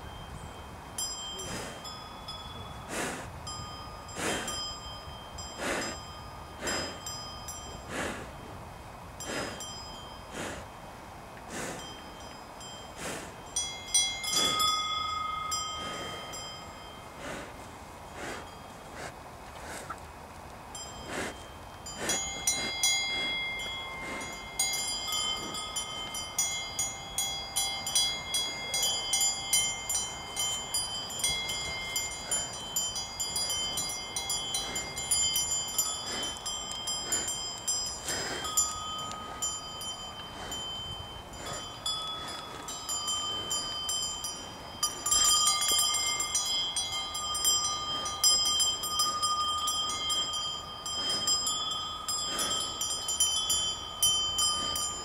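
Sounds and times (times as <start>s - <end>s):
cowbells clanking: 0.0s - 8.2s, 11.5s - 17.4s, 20.7s - 55.0s.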